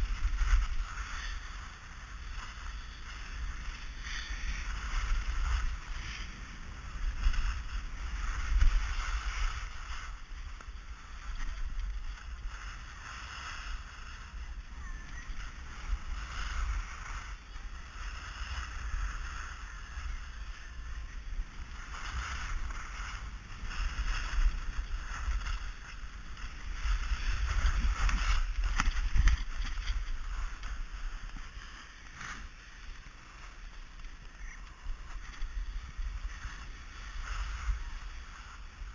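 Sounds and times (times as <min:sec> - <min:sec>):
edges scraping on snow: 0:00.0 - 0:38.9
wind buffeting camera: 0:00.0 - 0:38.9.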